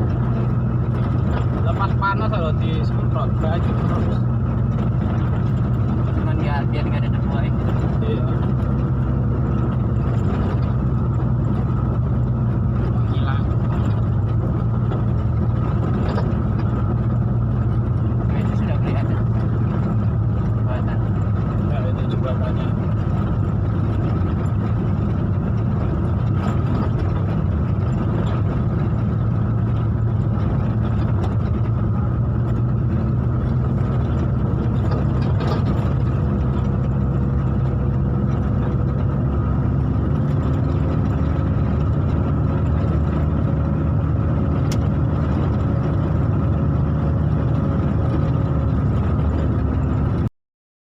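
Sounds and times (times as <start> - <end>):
vehicle engine and road noise: 0.0 - 50.3.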